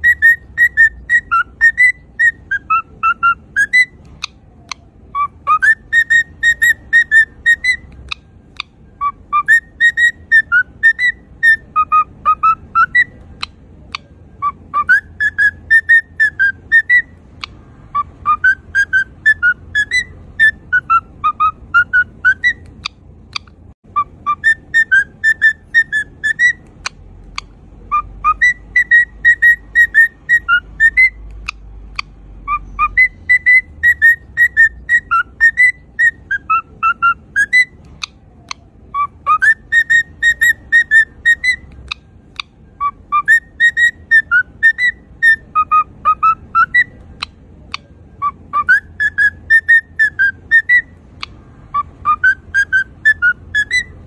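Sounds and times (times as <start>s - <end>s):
cockatiel whistling song: 0.0s - 54.0s.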